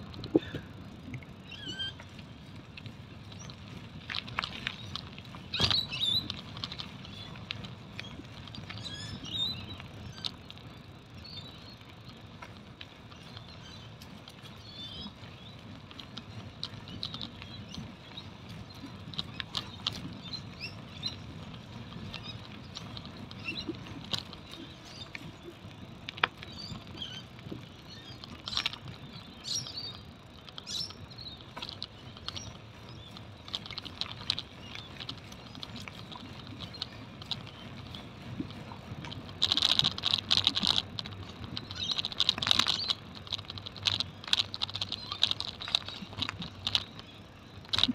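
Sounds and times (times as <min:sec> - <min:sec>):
bicycle clicks and rattles: 0:00.0 - 0:47.9
bicycle tyres rumbling on asphalt: 0:00.0 - 0:47.9.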